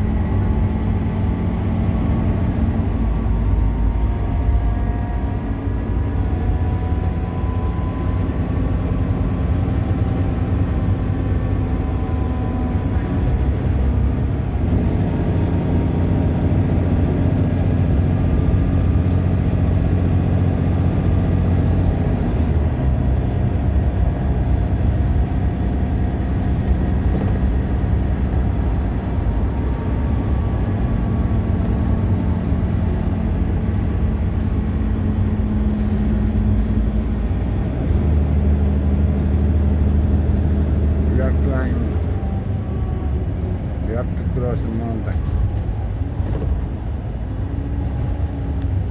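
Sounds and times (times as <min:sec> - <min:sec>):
bus engine drone: 0:00.0 - 0:48.9
road noise: 0:00.0 - 0:48.9.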